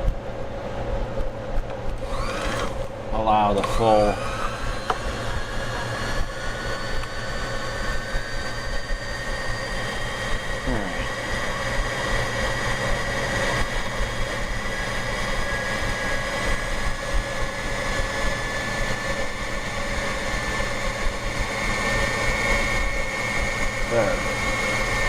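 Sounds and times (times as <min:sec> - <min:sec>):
sewing machine motor whine: 0:02.0 - 0:25.0.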